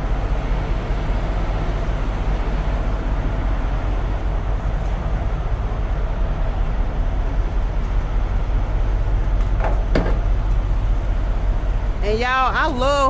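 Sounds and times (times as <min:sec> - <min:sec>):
diesel truck engine rumble: 0:00.0 - 0:13.0
road noise: 0:00.0 - 0:13.0.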